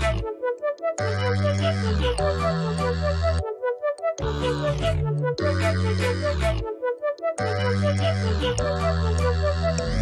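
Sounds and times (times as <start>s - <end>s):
electronic synth melody: 0.0s - 10.0s.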